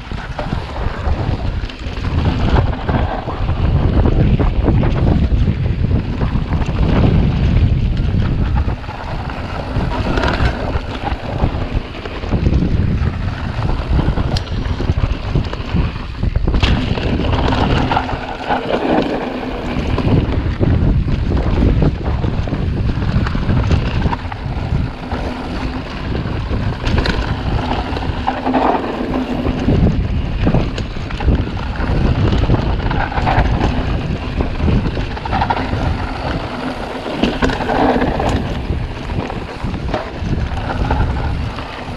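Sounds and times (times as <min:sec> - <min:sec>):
tyres rumbling on dirt trail: 0:00.0 - 0:41.9
wind buffeting microphone: 0:00.0 - 0:41.9
bike knocking over bumps: 0:00.3 - 0:41.9.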